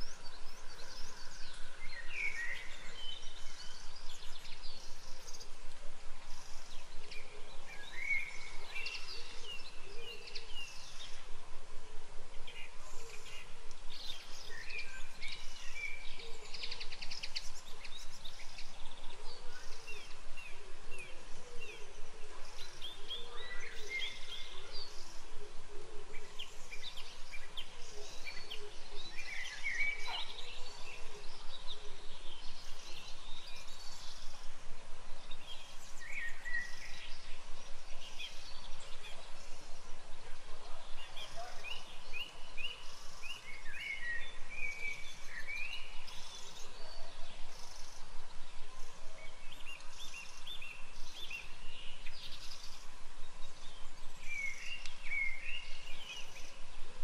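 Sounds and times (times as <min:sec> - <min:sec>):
birds singing and chirping: 0:00.0 - 0:11.4, 0:12.3 - 0:57.0
background hiss: 0:00.0 - 0:57.0.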